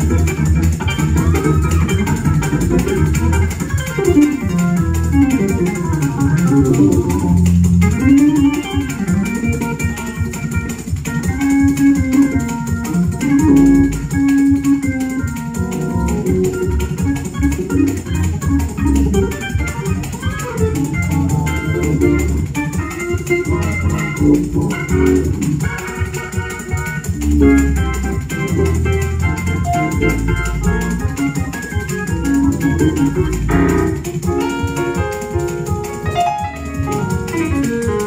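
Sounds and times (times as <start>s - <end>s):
bass guitar: 0.0s - 38.0s
drum kit: 0.0s - 38.0s
organ and keyboard: 0.0s - 38.0s.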